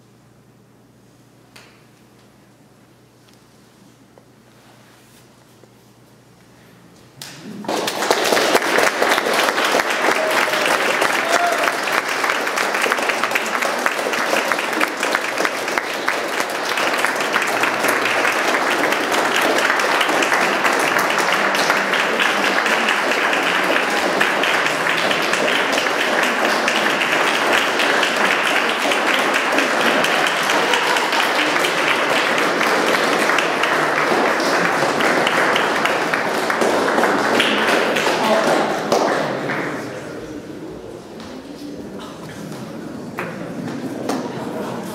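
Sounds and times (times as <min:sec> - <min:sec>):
audience applauding: 0:07.2 - 0:44.6.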